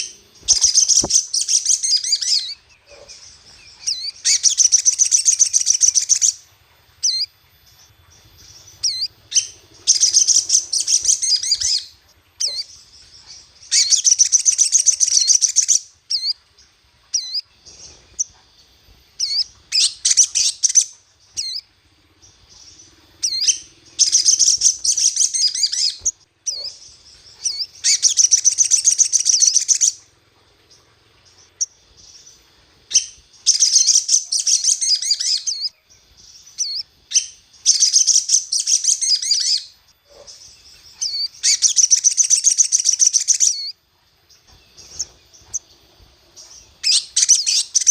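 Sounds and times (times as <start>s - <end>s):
songbird chirping rapidly: 0.0s - 47.9s.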